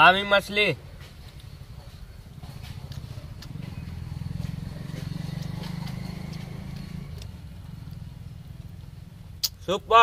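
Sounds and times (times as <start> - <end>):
engine humming: 0.7 - 9.9.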